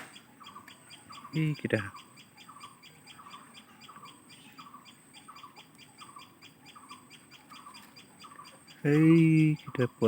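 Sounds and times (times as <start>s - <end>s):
high ticking bird chirps: 0.0s - 10.0s.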